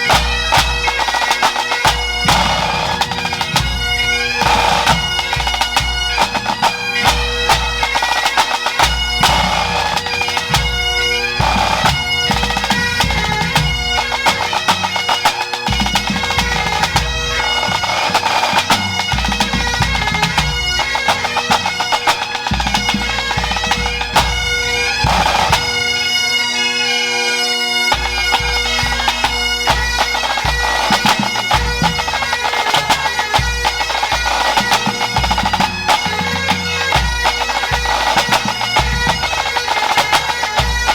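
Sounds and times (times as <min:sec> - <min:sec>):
snare and bass drums: 0:00.0 - 0:26.0, 0:27.9 - 0:40.9
bagpipes playing over drones: 0:00.0 - 0:40.9.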